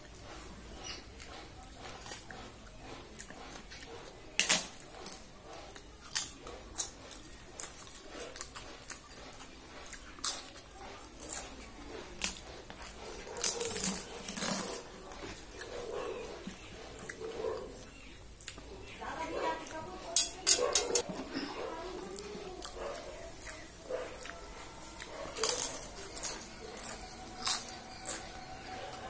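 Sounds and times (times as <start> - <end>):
wet chewing: 0.0 - 29.0.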